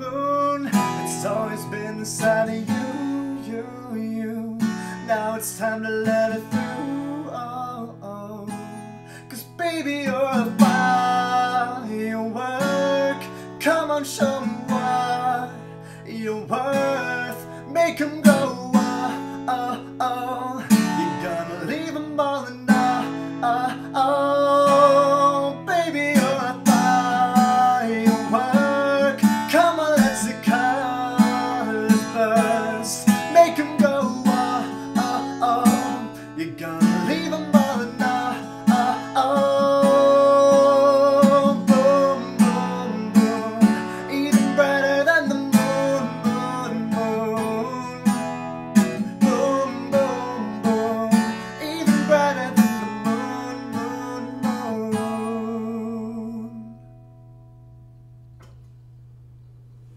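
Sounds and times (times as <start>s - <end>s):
strummed acoustic guitar: 0.0s - 58.7s.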